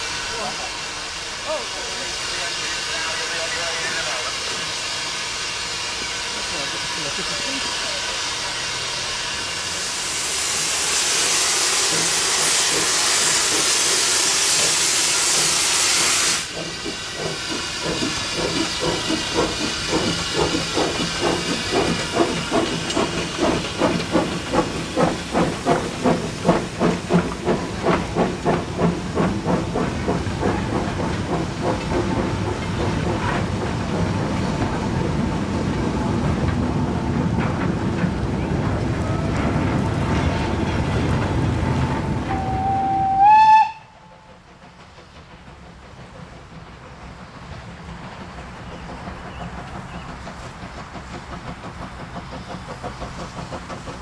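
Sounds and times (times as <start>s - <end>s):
loud hiss of escaping steam: 0.0s - 54.0s
steam engine exhaust beats: 0.0s - 54.0s.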